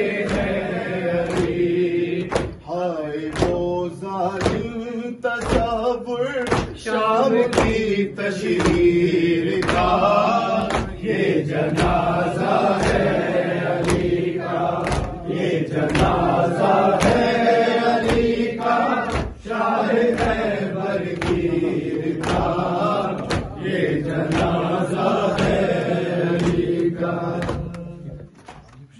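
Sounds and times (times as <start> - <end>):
men chanting a lament: 0.0 - 28.3
chest beating slaps: 0.0 - 28.5.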